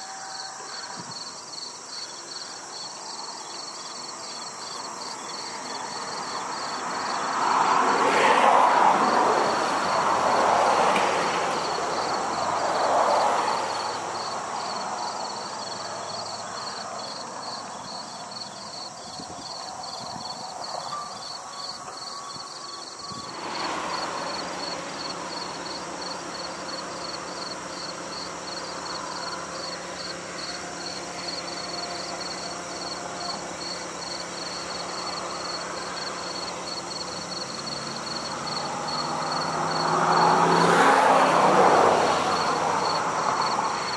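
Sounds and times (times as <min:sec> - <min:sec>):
insects chirping: 0:00.0 - 0:43.9
train rolling past: 0:00.0 - 0:43.9.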